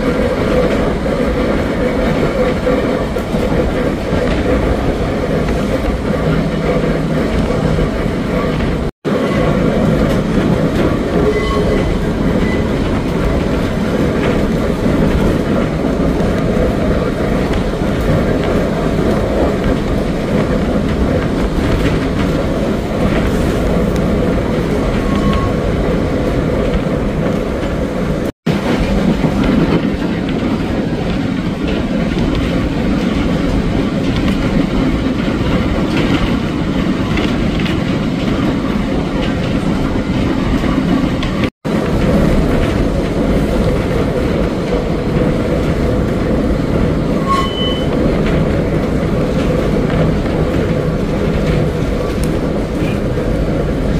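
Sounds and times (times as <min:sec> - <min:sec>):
tram rumbling on rails: 0:00.0 - 0:53.9
wheels clattering over rail joints: 0:00.0 - 0:53.9.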